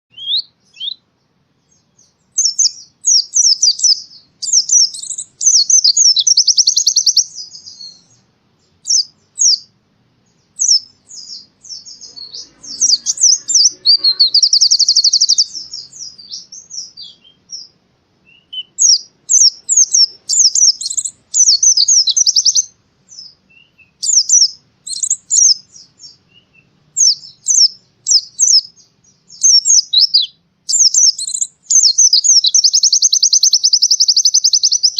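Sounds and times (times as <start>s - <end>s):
bird chirping and trilling: 0.1s - 34.9s.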